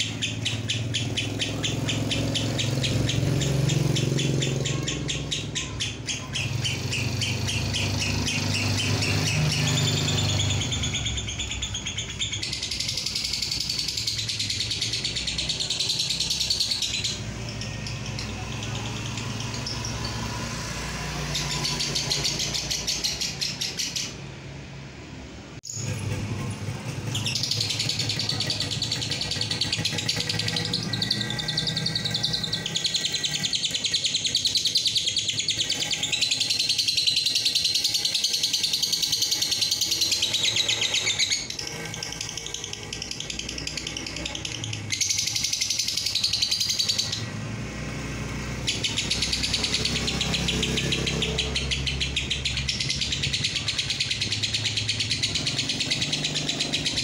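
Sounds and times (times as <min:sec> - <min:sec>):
lovebird chattering trill: 0:00.0 - 0:24.3, 0:25.6 - 0:47.4, 0:48.4 - 0:57.0.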